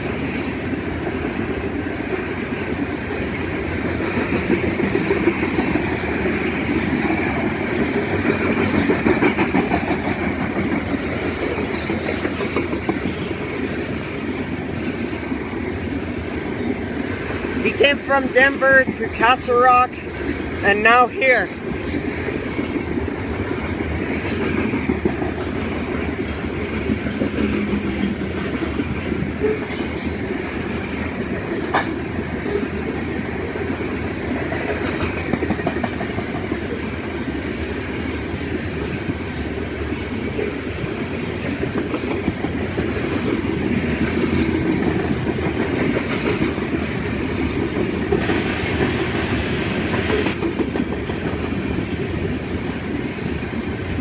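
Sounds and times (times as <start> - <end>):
train wheels rumbling on rails: 0.0 - 54.0
wheels clicking over rail joints: 1.1 - 19.0, 21.7 - 49.3.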